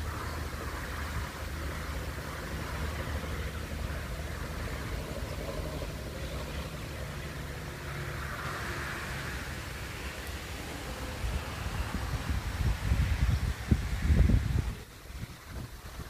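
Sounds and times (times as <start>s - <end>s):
highway traffic: 0.0s - 16.0s.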